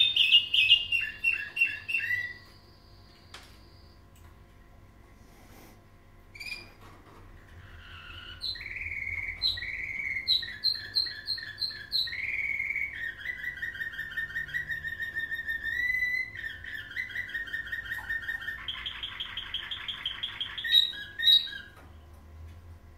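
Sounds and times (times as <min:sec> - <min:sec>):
canary singing: 0:00.0 - 0:04.0, 0:06.3 - 0:22.1.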